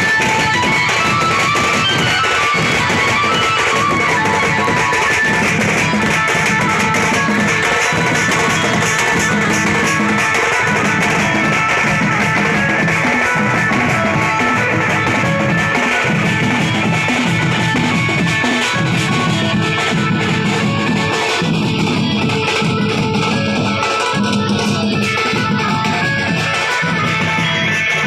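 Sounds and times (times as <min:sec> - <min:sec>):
band playing instrumental music: 0:00.0 - 0:28.0
drums: 0:00.0 - 0:28.0.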